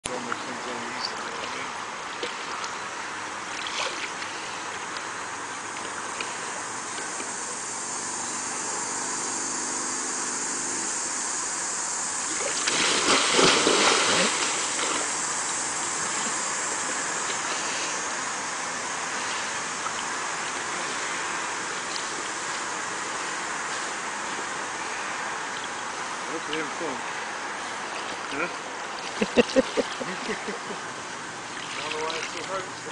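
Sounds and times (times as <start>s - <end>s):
pool water splashing: 0.1s - 32.9s
steady hiss: 0.1s - 32.9s.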